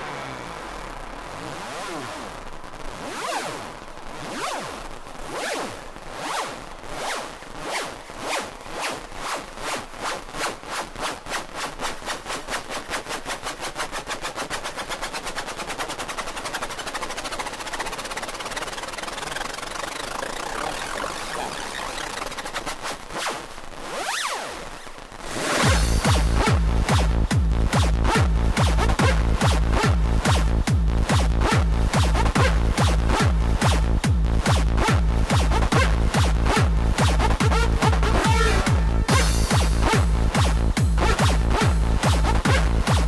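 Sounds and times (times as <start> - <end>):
drum roll speeding up: 0.0 - 43.0.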